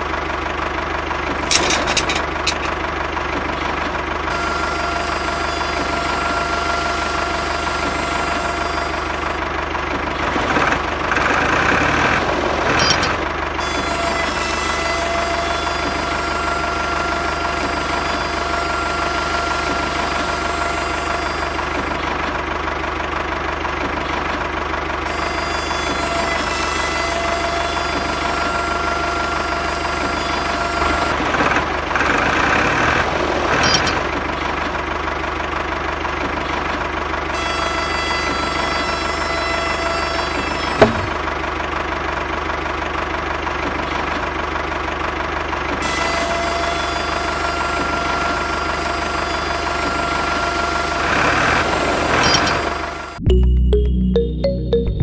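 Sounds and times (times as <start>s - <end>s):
tractor engine idling with knocking: 0.0s - 53.2s.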